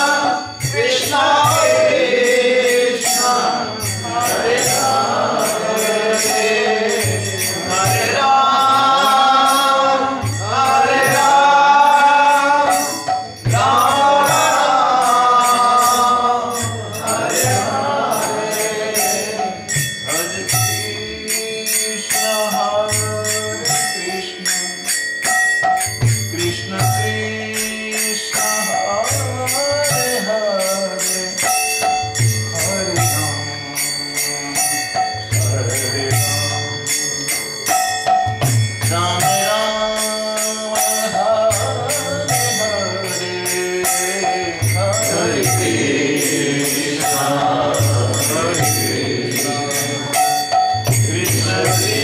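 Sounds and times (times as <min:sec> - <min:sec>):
hand cymbals jingling: 0:00.0 - 0:52.0
man singing devotional chant: 0:00.0 - 0:52.0.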